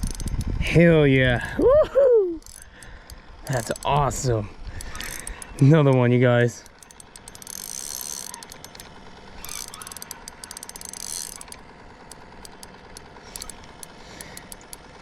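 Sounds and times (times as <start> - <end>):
fishing reel ratcheting clicks: 0.0 - 1.4, 2.3 - 15.0.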